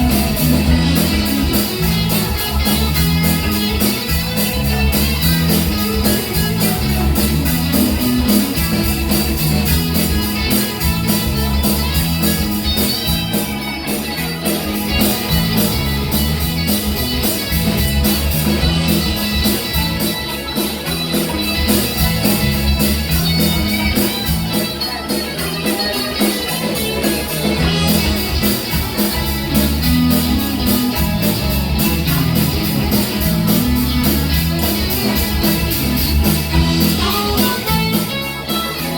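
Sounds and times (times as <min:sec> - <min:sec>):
bass line: 0:00.0 - 0:26.0, 0:26.6 - 0:38.9
drum kit: 0:00.0 - 0:38.9
guitar: 0:00.0 - 0:38.9.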